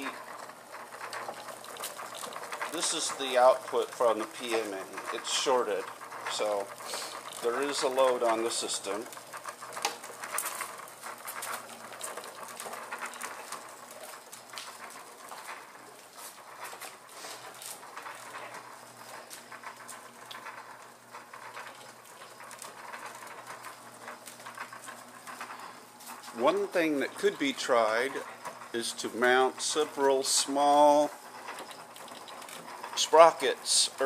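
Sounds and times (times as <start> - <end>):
faint motor hum: 0.0 - 34.0
irregular clicking and rattling: 0.0 - 34.0.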